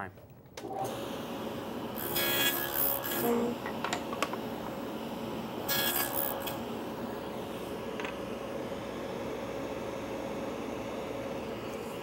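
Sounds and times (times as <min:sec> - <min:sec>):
machine hum: 0:00.6 - 0:12.0.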